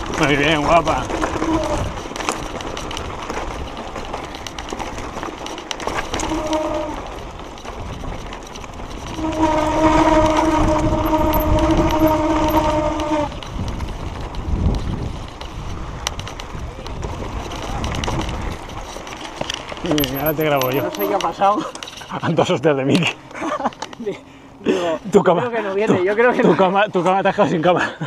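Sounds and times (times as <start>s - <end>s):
disc brakes howling: 0.0s - 26.4s
tyres rattling on gravel: 0.0s - 28.0s
wind: 0.0s - 28.0s.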